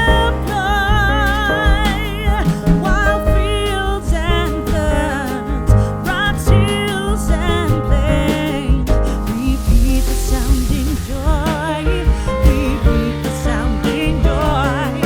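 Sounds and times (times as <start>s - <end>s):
song with singing and band: 0.0s - 15.0s.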